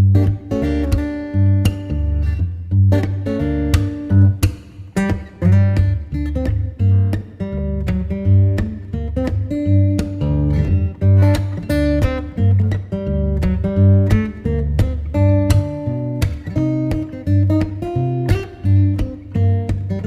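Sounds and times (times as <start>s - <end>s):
low bass line: 0.0s - 4.5s, 5.4s - 19.7s
acoustic guitar plucked and strummed: 0.0s - 20.0s.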